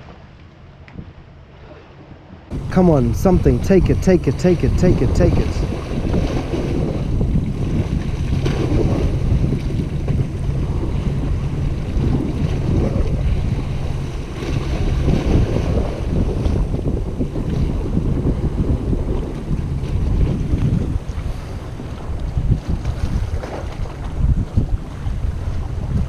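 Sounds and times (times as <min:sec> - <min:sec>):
sea waves washing on rocks: 0:02.5 - 0:26.0
wind buffeting microphone: 0:02.5 - 0:26.0.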